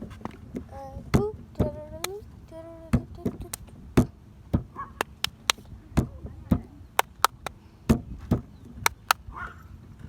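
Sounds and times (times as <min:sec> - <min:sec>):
faint low rumble: 0:00.0 - 0:10.0.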